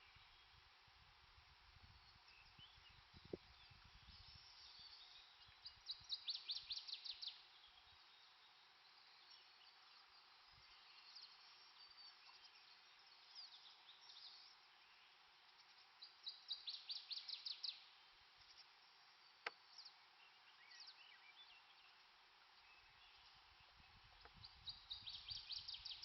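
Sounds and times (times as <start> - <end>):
faint steady hiss: 0.0 - 26.0
small birds chirping: 1.9 - 26.0.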